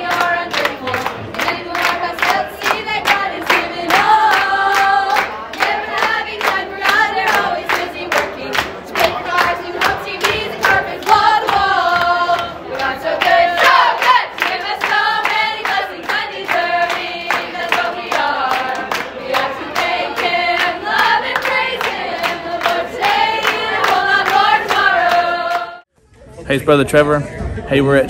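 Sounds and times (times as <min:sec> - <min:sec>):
hands clapping along: 0:00.0 - 0:25.8
group singing together: 0:00.0 - 0:25.9.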